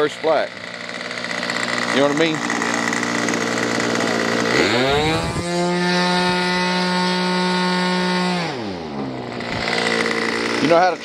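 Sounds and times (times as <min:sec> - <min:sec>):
model airplane engine buzzing: 0:00.0 - 0:11.0.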